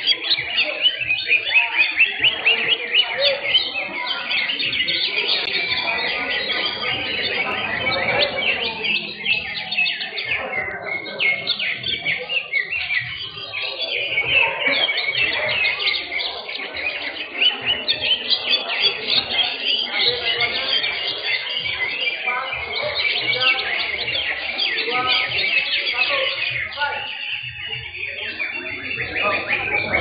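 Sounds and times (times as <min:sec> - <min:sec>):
many birds chirping and whistling: 0:00.0 - 0:30.0.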